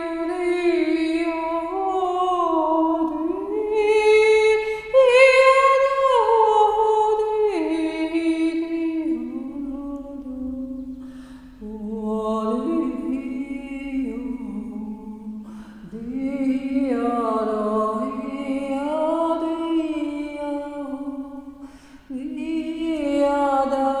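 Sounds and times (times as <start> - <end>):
woman singing without words: 0.0 - 24.0.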